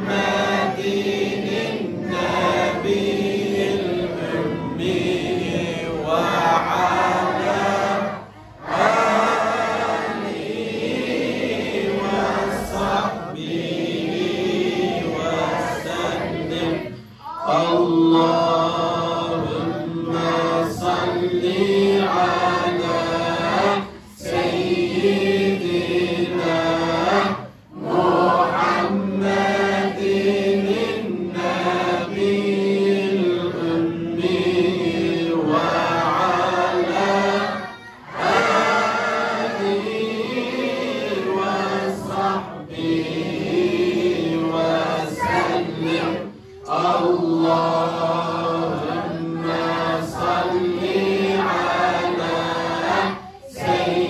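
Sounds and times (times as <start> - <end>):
men chanting together: 0.0 - 54.0.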